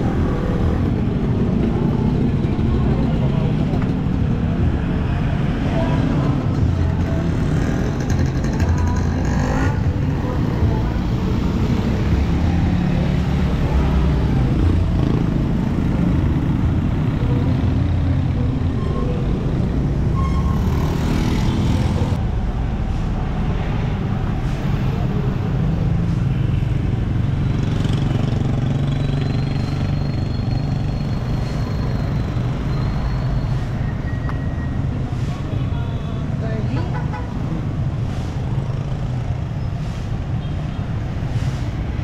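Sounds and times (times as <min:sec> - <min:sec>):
traffic passing: 0:00.0 - 0:42.0.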